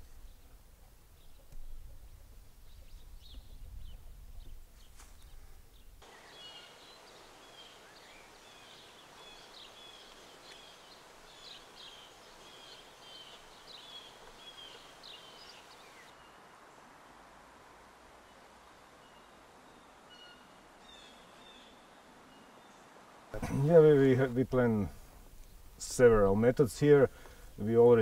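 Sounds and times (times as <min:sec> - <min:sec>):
faint songbird chirping: 0:00.0 - 0:16.8, 0:18.2 - 0:28.0
steady outdoor hiss: 0:00.0 - 0:28.0.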